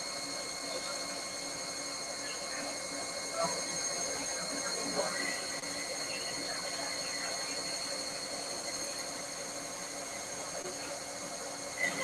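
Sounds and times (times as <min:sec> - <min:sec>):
cnc machine whine: 0:00.0 - 0:12.0.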